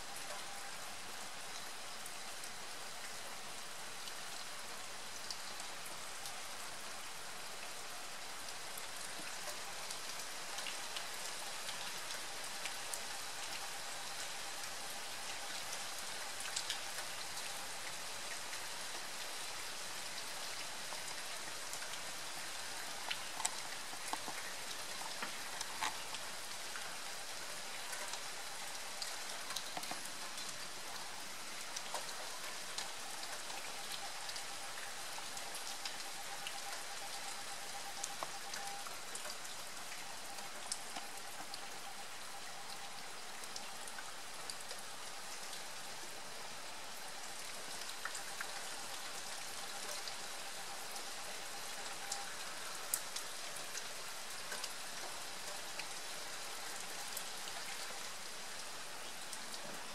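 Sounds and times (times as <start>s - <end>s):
rain hiss: 0.0s - 59.9s
raindrops ticking on surfaces: 0.0s - 59.9s.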